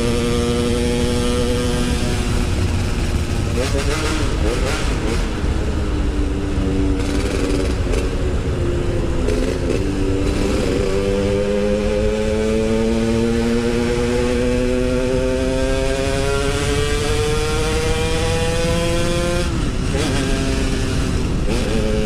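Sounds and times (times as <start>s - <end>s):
two-stroke motorcycle engine: 0.0s - 22.0s.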